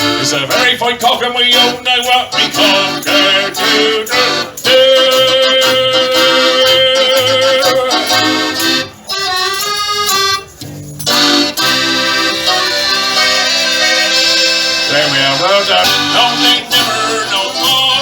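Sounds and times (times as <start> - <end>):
live folk accordion music: 0.0 - 18.0.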